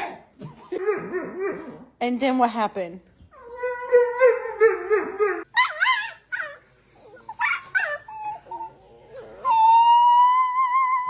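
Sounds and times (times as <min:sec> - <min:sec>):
dog whining and howling: 0:00.7 - 0:01.9, 0:03.3 - 0:11.0.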